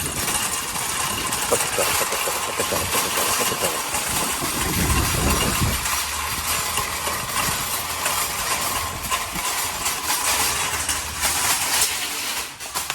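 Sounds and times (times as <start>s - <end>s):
shopping cart wheels clunking: 0.0s - 12.9s
wire basket rattling: 0.0s - 12.9s.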